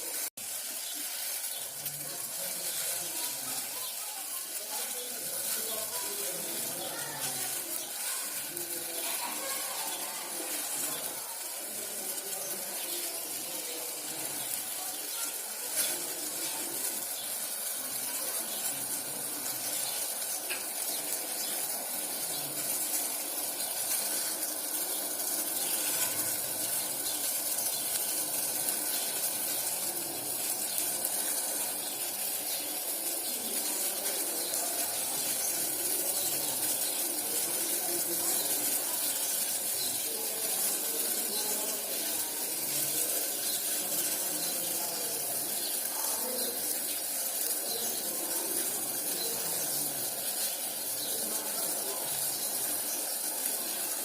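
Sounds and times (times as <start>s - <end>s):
pan simmering on stove: 0.0s - 54.0s.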